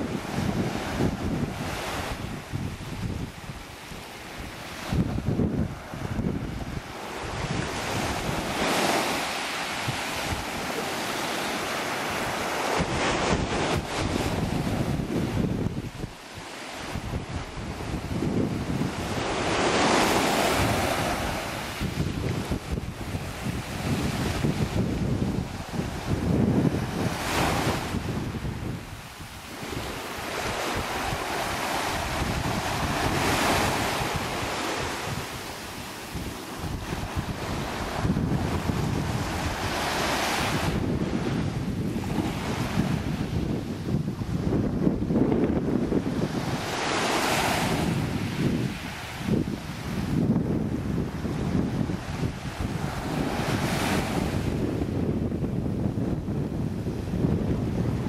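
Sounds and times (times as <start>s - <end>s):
waves washing on pebble beach: 0.0s - 54.9s
wind buffeting microphone: 0.0s - 58.0s.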